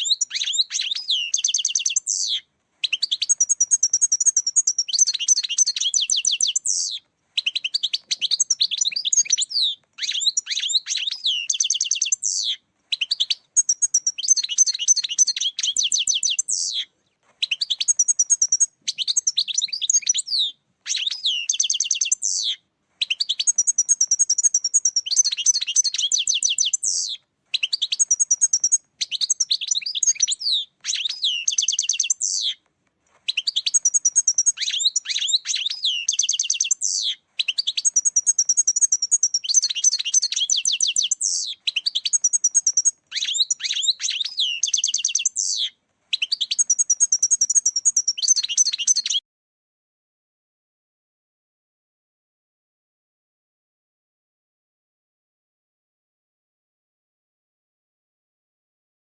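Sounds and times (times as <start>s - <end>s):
finch twittering song: 0.0s - 32.6s, 33.2s - 49.2s.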